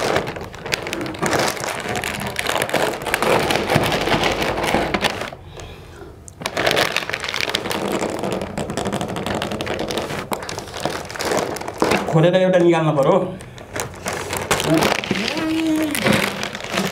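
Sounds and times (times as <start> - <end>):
plastic chip packets crinkling: 0.0 - 5.7, 6.3 - 16.9.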